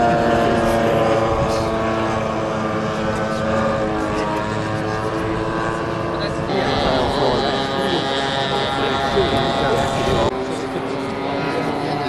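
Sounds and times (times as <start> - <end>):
model plane engine drone: 0.0 - 12.0.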